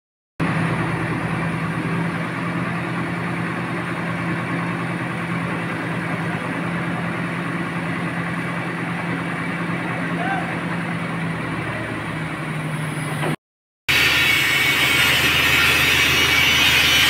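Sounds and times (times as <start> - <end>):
diesel engine humming: 0.4 - 17.0.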